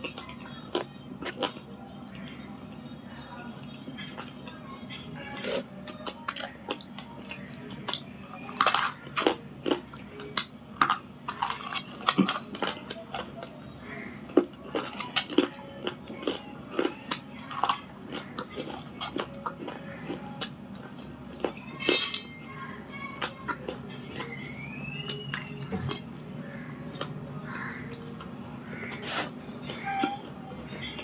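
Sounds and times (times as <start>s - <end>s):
crunching and snapping of chewing: 0.0s - 2.5s, 3.6s - 31.0s.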